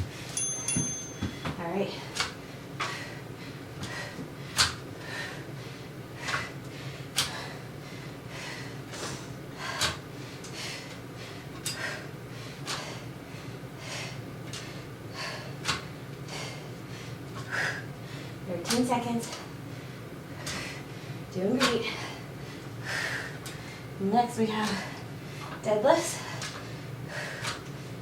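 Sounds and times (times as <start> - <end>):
woman breathing hard: 1.2 - 18.4, 19.6 - 24.0, 24.7 - 28.0.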